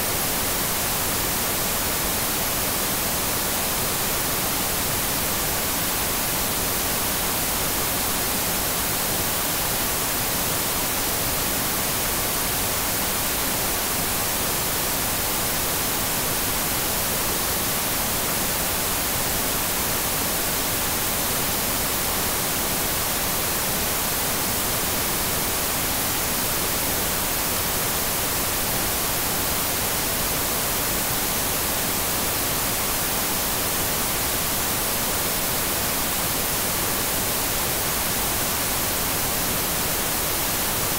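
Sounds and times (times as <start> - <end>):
television static hiss: 0.0 - 40.9.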